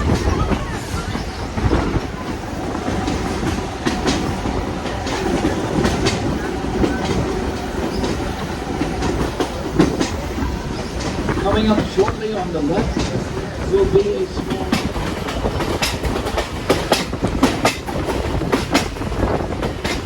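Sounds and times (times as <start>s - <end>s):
train wheels rumbling on rail: 0.0s - 20.0s
wheels clicking over rail joints: 0.0s - 20.0s.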